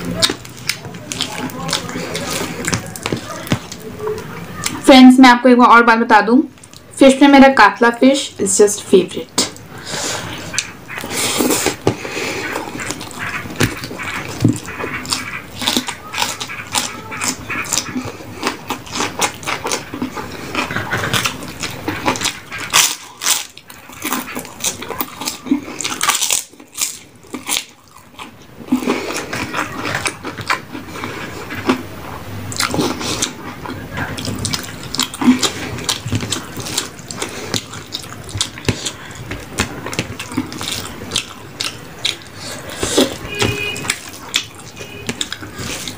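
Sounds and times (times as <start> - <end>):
chewing crisp food: 0.0 - 4.8, 6.5 - 7.0, 9.4 - 45.9.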